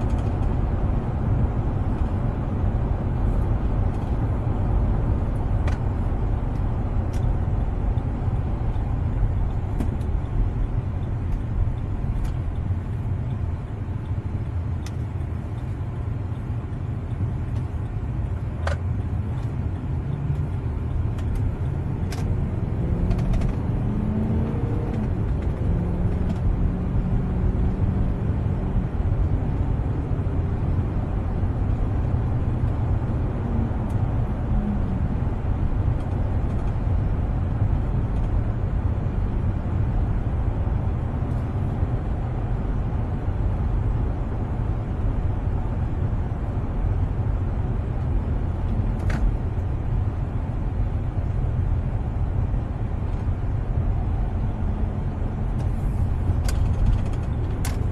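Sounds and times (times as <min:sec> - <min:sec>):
vehicle cabin road rumble: 0:00.0 - 0:57.9.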